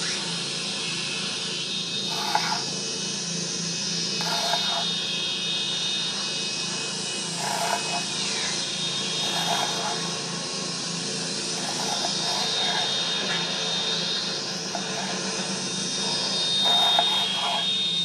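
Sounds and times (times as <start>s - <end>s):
machine-like drone: 0.0s - 18.0s.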